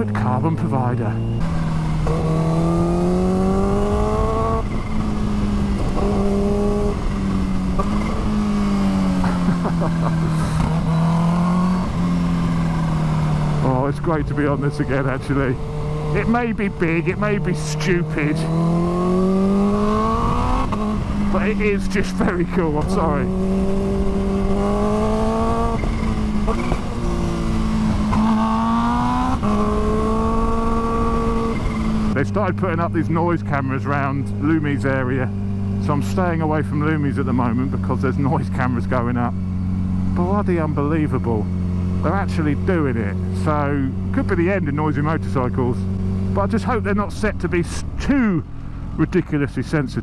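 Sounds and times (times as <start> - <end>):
motorcycle engine revving: 0.0 - 49.7.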